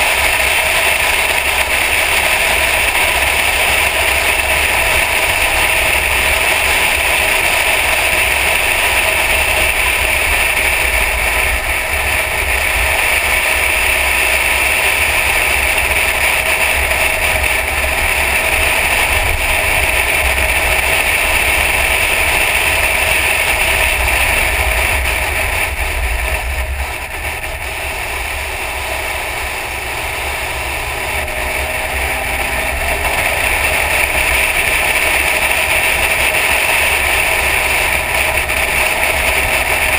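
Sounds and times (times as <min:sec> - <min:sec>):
car noise: 0:00.0 - 0:39.9.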